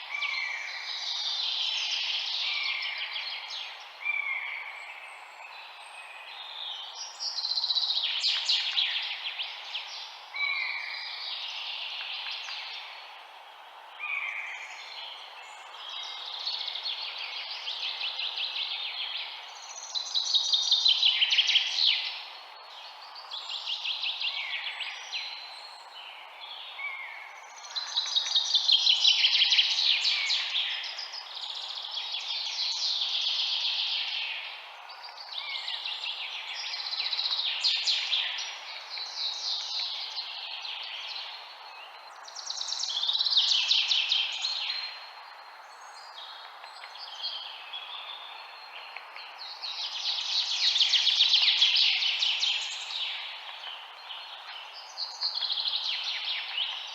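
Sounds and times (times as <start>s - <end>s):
background hiss: 0.0s - 56.9s
small birds chirping: 0.0s - 56.9s.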